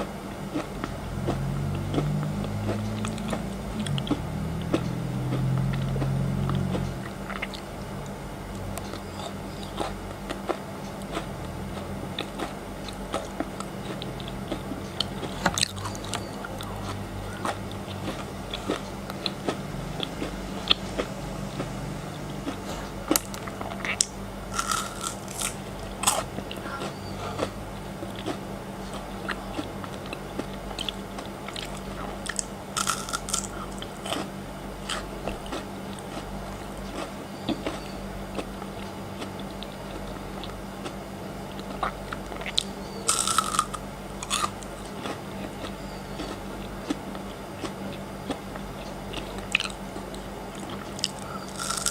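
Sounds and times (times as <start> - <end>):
crunching frozen chocolate: 8.5 - 21.1, 22.2 - 51.9.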